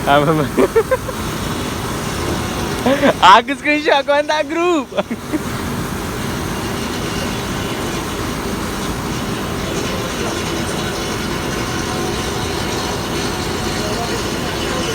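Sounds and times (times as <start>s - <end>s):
ship machinery rumble: 0.0s - 14.9s.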